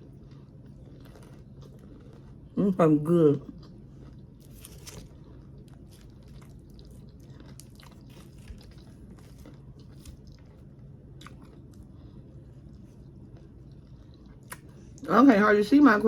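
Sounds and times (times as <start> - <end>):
chewing and biting crunches: 0.0 - 15.1.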